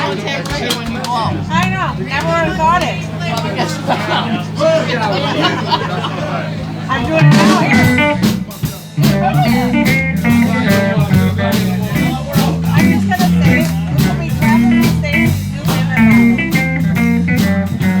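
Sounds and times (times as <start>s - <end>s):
live blues band playing: 0.7s - 18.0s.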